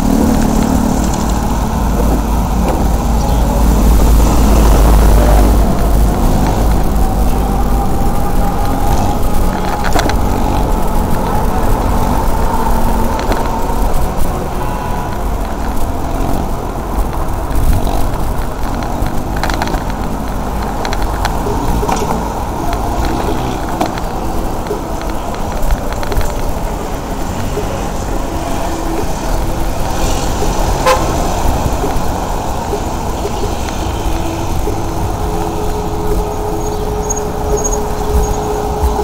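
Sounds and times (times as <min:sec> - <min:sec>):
road rumble: 0:00.0 - 0:39.0
wind buffeting microphone: 0:00.0 - 0:39.0.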